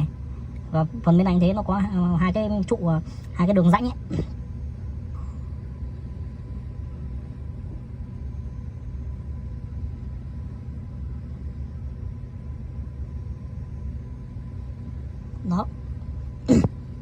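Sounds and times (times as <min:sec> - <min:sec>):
faint hum: 0:00.0 - 0:17.0
low background rumble: 0:00.0 - 0:17.0.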